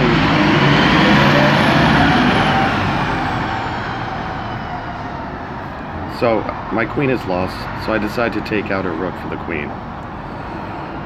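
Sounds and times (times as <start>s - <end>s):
heavy vehicle engine: 0.0s - 11.0s.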